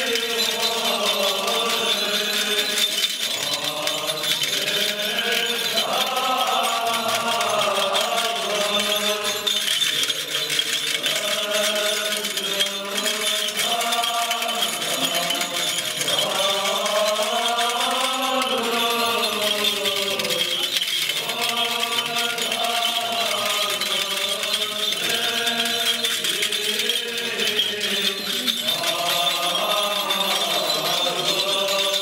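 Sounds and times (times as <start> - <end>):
male choir chanting: 0.0 - 32.0.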